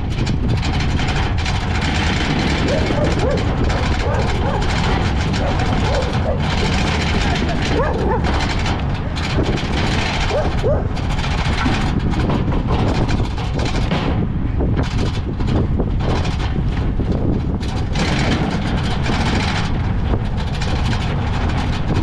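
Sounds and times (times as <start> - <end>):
vehicles rolling along road: 0.0 - 22.0.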